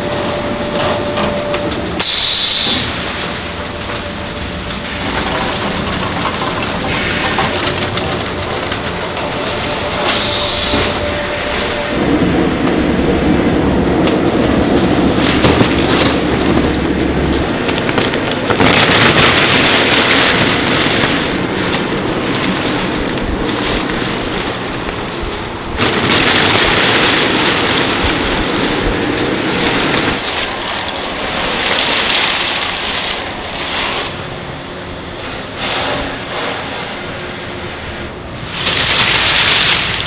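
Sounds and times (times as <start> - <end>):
crackers clattering on conveyor: 0.0 - 34.5, 38.2 - 40.0
factory machinery running: 0.0 - 40.0.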